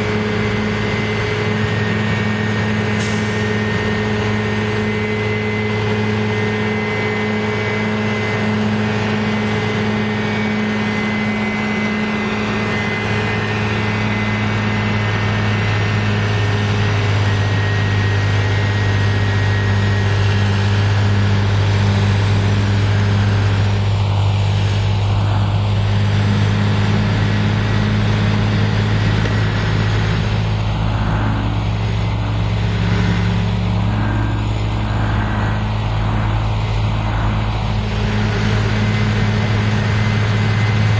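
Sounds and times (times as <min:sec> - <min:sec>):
heavy diesel engine hum: 0:00.0 - 0:40.9
snowblower rushing: 0:00.0 - 0:40.9.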